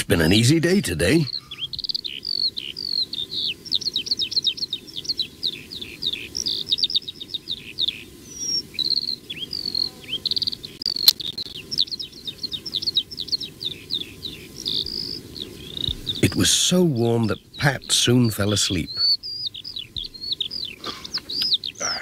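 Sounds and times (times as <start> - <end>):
low hiss: 0.0 - 22.0
small birds chirping: 0.0 - 22.0.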